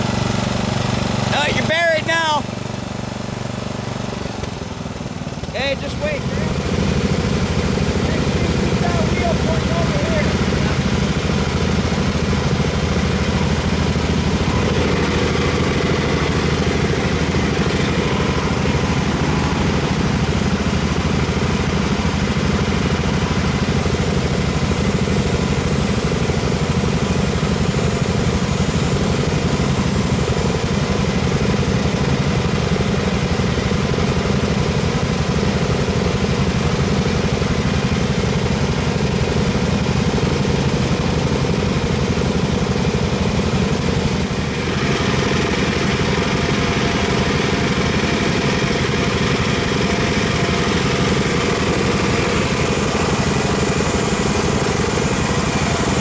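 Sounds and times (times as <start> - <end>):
small tractor engine running: 0.0 - 56.0.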